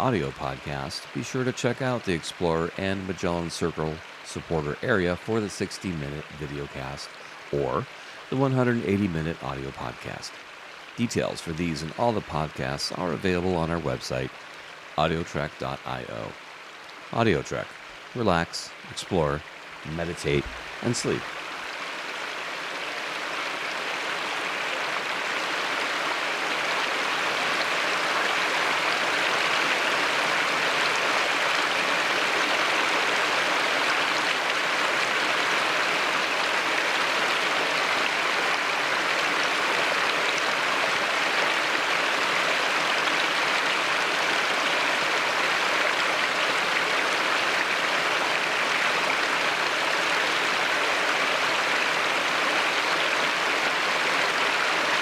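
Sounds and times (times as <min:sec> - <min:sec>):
water rushing over rock ledges: 0:00.0 - 0:55.0.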